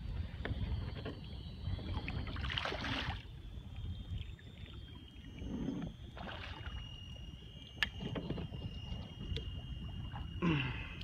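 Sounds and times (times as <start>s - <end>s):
water swish: 0.0s - 10.4s
water lapping against kayak: 0.0s - 11.0s
wind rumble on microphone: 0.0s - 11.0s.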